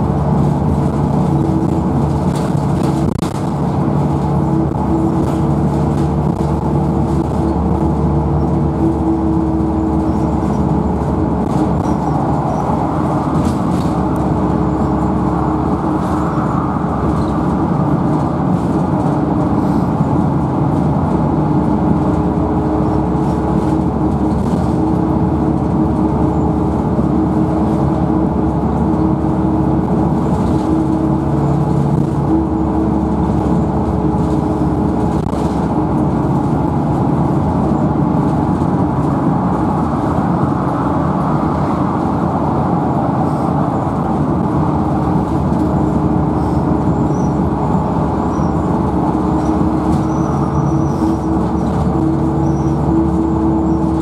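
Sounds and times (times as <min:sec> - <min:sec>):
bus engine humming: 0:00.0 - 0:54.0
tyre and road noise: 0:00.0 - 0:54.0.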